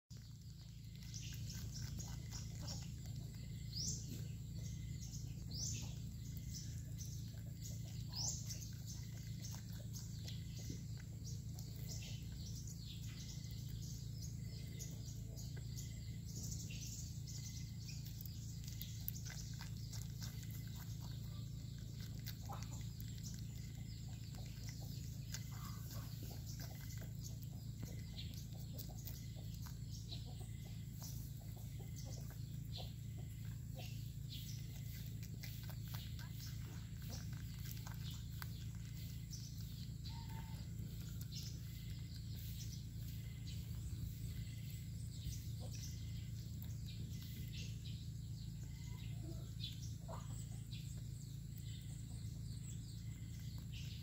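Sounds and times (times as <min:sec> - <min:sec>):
birds chirping: 0:00.0 - 0:54.0
steady low hum: 0:00.0 - 0:54.0.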